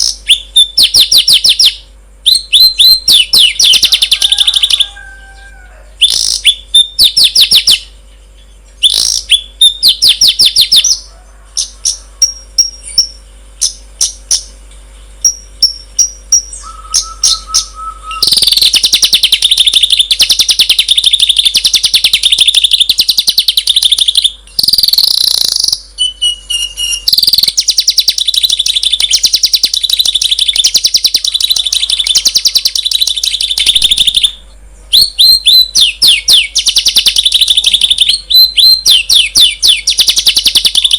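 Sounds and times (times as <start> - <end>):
bird steady whistle: 0.0 - 5.4, 6.0 - 7.9, 8.8 - 14.5, 15.3 - 40.9
songbird chirping trills: 0.0 - 40.9.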